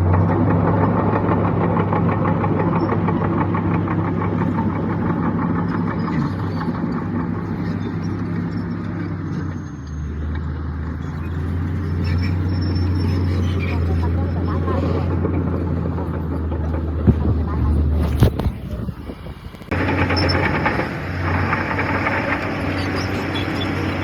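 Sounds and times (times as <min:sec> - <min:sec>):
heavy diesel engine pulsing: 0:00.0 - 0:24.0.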